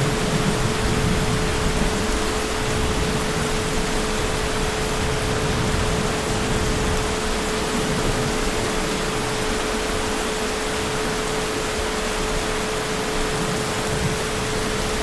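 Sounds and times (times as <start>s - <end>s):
constant high hum: 0.0s - 15.0s
heavy rain hissing: 0.0s - 15.0s.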